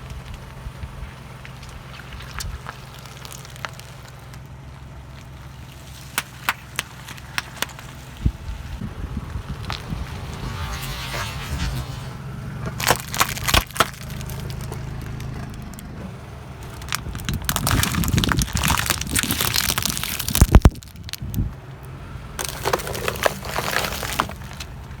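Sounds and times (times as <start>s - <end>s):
car engine humming: 0.0s - 25.0s
car tyre crushing crunchy objects: 0.0s - 25.0s.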